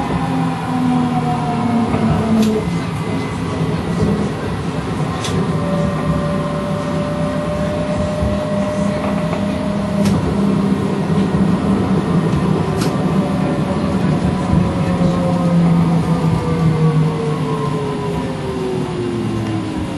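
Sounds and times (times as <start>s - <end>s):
streetcar motor hum: 0.0s - 19.9s
wheel-on-rail rumble: 0.0s - 19.9s.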